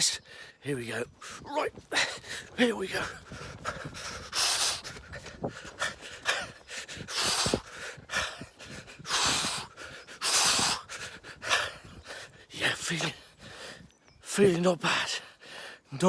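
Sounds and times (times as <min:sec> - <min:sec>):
man breathing hard: 0:01.2 - 0:12.5, 0:13.1 - 0:13.9, 0:15.0 - 0:15.9.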